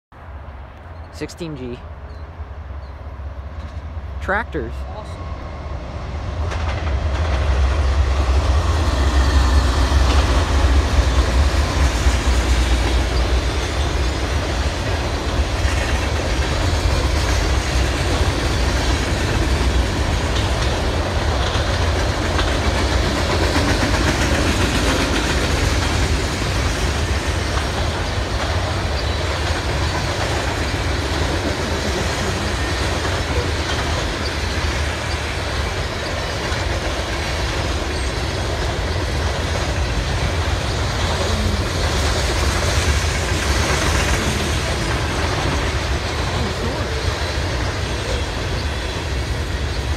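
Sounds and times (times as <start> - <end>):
diesel locomotive rumble: 0.2 - 49.9
freight cars clattering on rails: 6.4 - 49.9.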